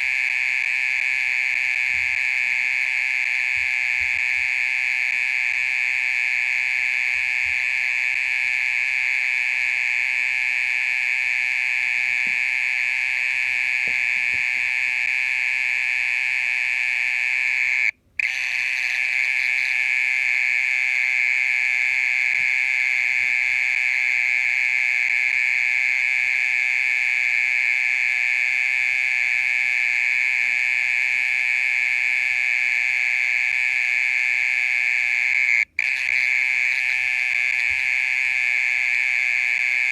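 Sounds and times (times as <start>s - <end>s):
mole cricket buzzing trill: 0.0s - 39.9s.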